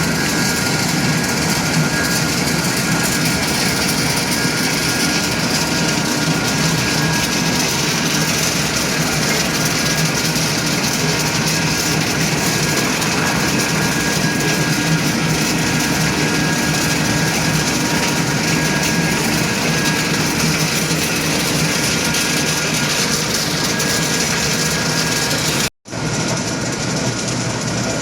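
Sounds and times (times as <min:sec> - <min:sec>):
machinery droning: 0:00.0 - 0:28.0.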